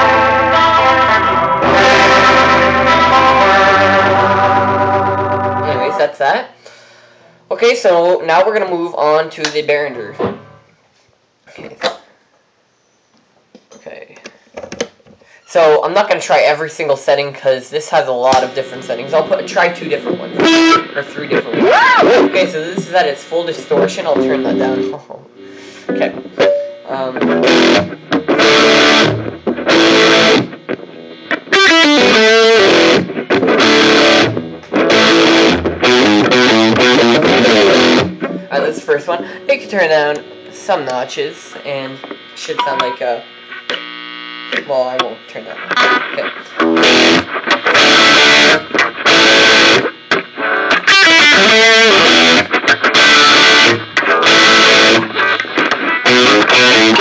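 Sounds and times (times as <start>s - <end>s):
distorted electric guitar chords: 0.0s - 6.2s, 9.9s - 10.8s, 17.9s - 57.0s.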